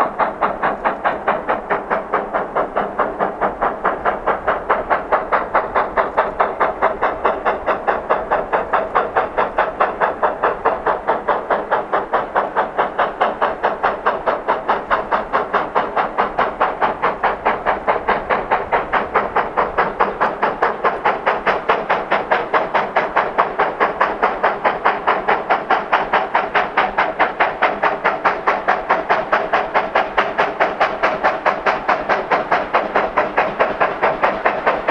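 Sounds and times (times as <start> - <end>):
steam locomotive exhaust beating: 0.0 - 34.9.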